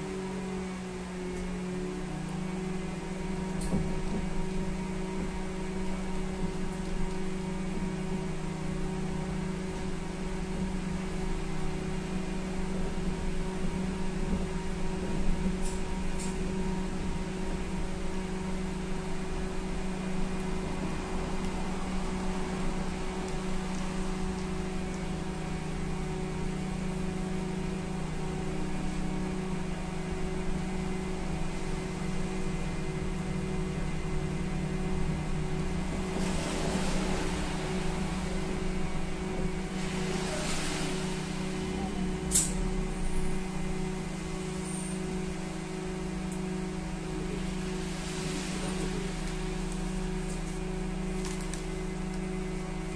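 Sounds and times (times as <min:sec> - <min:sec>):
trolleybus electrical hum: 0:00.0 - 0:52.9
low rolling rumble: 0:01.4 - 0:52.9.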